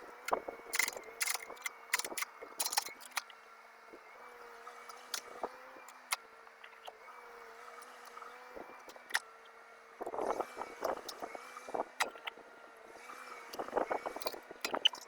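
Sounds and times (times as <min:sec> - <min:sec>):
mini excavator whining: 0:00.0 - 0:15.0.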